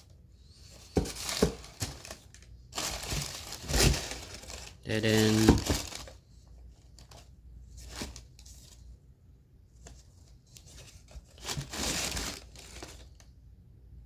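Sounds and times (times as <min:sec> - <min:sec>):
packaging rustling and crinkling: 0:00.6 - 0:08.9, 0:09.8 - 0:13.3.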